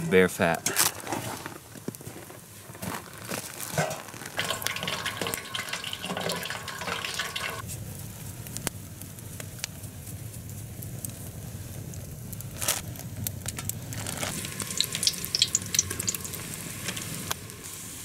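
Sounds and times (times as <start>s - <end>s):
fat frying in a pot: 0.1s - 18.0s
campfire crackling: 0.4s - 18.0s.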